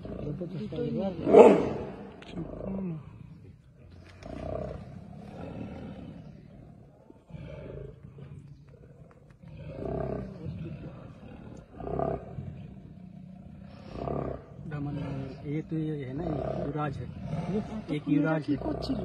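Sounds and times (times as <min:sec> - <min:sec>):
tigers growling and roaring: 0:00.0 - 0:19.0.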